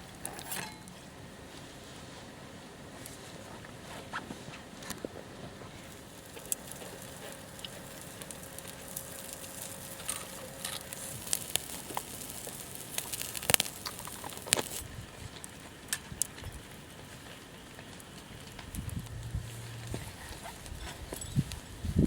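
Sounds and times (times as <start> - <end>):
campfire crackling: 0.0 - 22.0
low steady hiss: 0.0 - 22.0
sharp pops of fire: 4.2 - 22.0.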